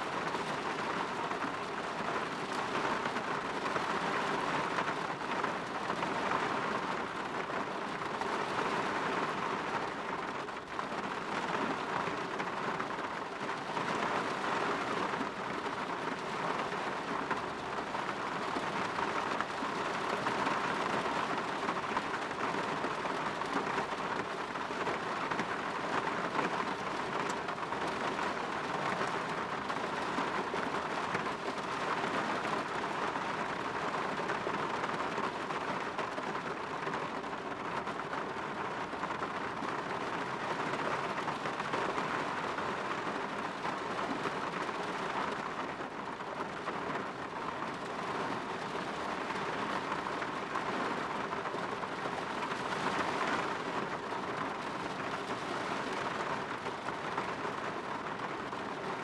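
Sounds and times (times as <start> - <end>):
rain against a window: 0.0 - 59.0.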